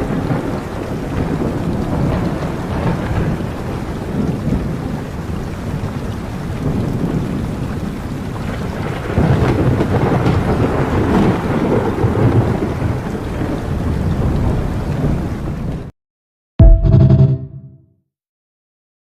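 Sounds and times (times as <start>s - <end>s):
rolling thunder: 0.0s - 15.9s
steady rain: 0.0s - 15.9s.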